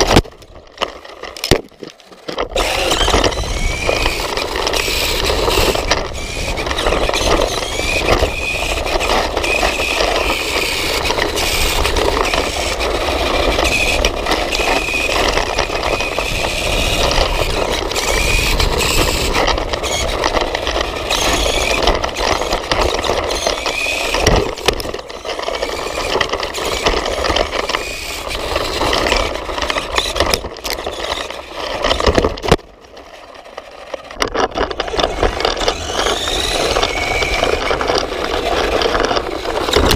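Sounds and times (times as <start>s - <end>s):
road noise: 0.0s - 39.9s
toy motorcycle motor whining: 0.0s - 39.9s.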